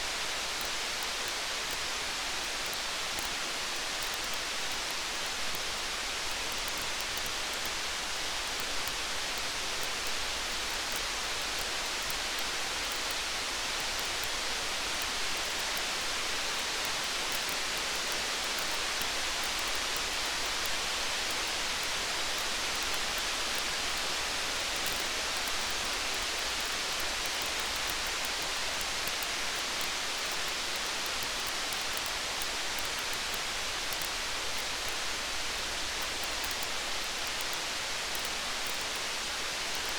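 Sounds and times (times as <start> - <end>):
light ticks: 0.0 - 39.9.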